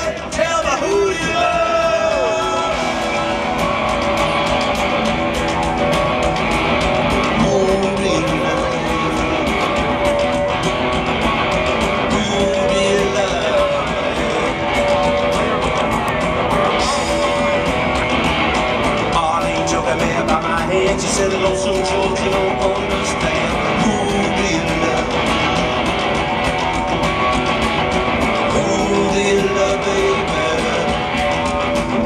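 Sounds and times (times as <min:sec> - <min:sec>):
drum and cymbal hits: 0:00.0 - 0:32.0
live rock band playing: 0:00.0 - 0:32.0.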